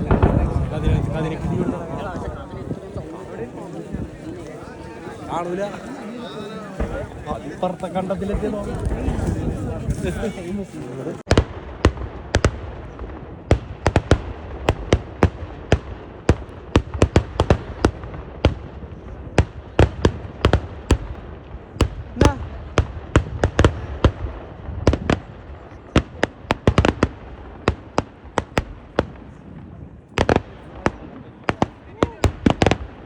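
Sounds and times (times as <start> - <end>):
firework explosions: 0.0 - 33.0.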